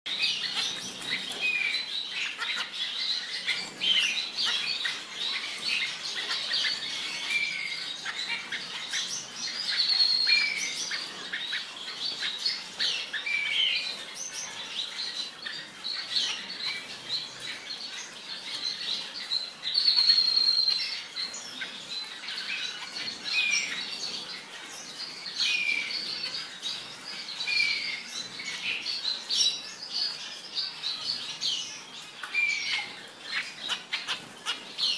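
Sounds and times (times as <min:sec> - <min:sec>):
finches chirping: 0:00.1 - 0:34.9.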